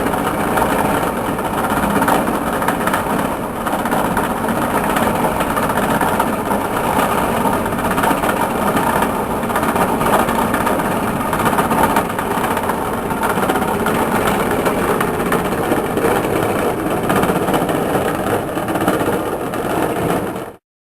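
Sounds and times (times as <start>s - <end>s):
machine running: 0.0s - 20.6s.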